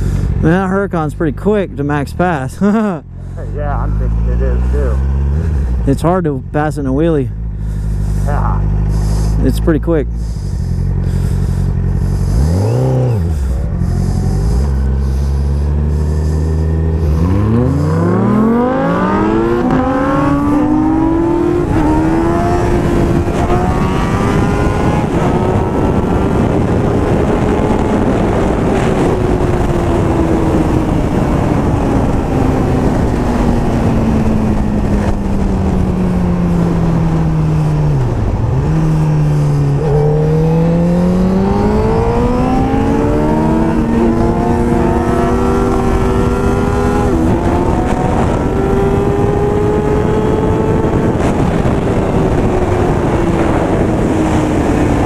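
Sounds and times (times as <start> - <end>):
motorcycle engine revving: 0.0 - 55.0
wind rush: 7.6 - 55.0.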